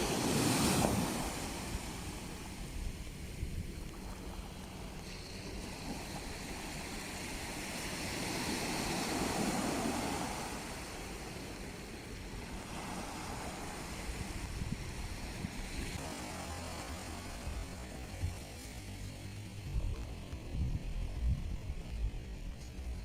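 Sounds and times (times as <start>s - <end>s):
wave breaking: 0.0s - 19.1s
sea waves washing ashore: 0.0s - 23.0s.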